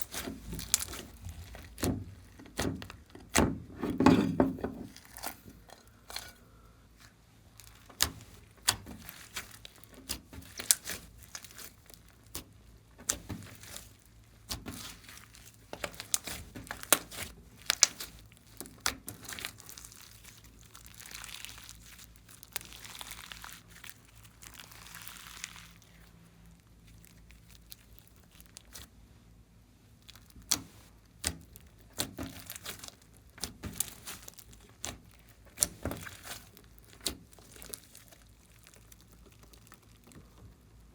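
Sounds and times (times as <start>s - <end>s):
slime squishing and popping: 0.0s - 3.6s, 7.6s - 26.2s, 26.8s - 28.9s, 30.0s - 40.9s.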